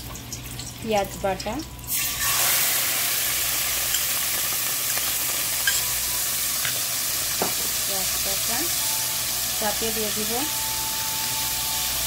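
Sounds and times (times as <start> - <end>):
onion paste sizzling in oil: 0.0 - 12.0.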